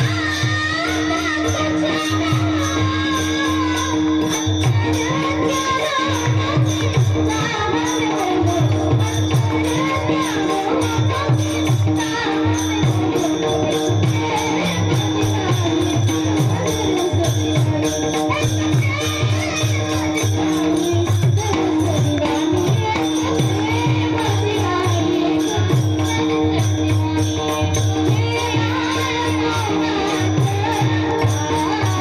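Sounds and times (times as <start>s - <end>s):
drum playing steady rhythm: 0.0s - 32.0s
jingling hand percussion: 0.0s - 32.0s.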